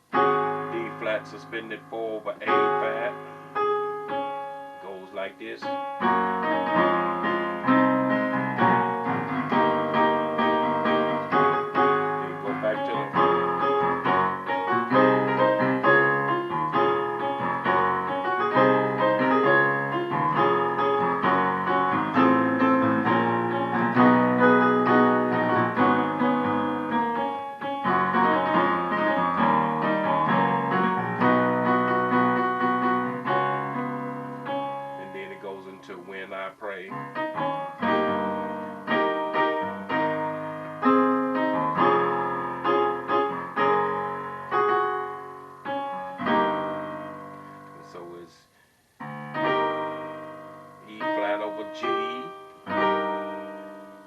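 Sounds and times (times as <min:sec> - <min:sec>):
piano playing gospel chords: 0:00.0 - 0:48.3, 0:48.9 - 0:54.0.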